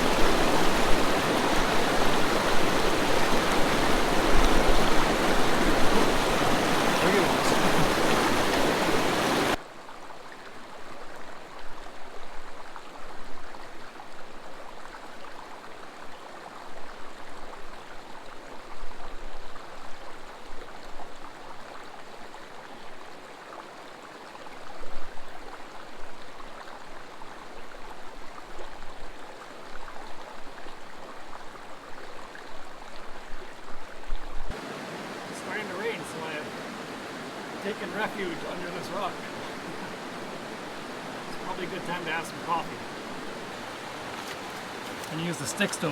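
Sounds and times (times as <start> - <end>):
creek running over rocks: 0.0 - 45.9.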